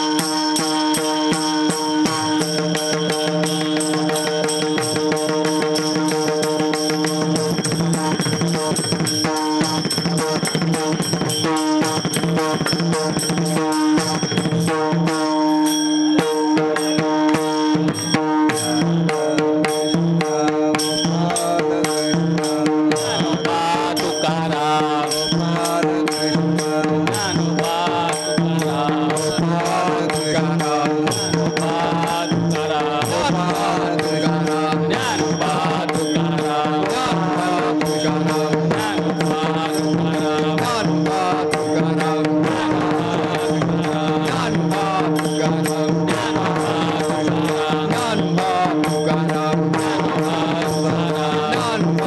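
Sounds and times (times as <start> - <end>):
devotional singing: 0.0 - 10.9, 16.5 - 52.0
hand drum beats: 0.0 - 52.0.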